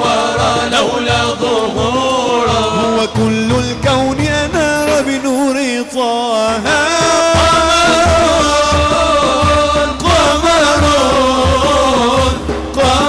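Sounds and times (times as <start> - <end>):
frame drum beat: 0.0 - 5.6, 6.6 - 13.0
men singing held notes: 0.0 - 13.0.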